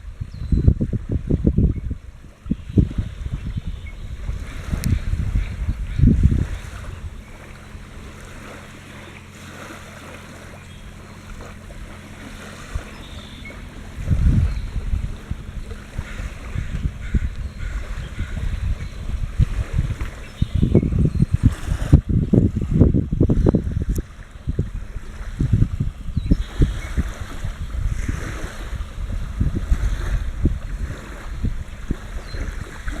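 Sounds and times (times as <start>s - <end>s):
ocean waves washing on shore: 0.0s - 33.0s
steady low hum: 0.0s - 33.0s
wind buffeting microphone: 0.0s - 33.0s.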